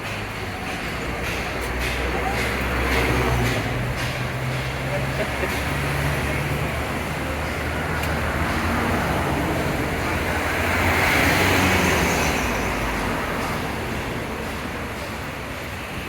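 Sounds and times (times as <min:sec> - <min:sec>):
traffic engine rumble: 0:00.0 - 0:16.0.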